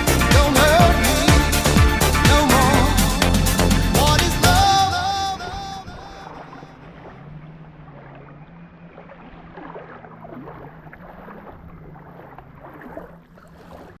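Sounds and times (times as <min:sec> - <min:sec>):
low motor drone: 0:00.0 - 0:12.6.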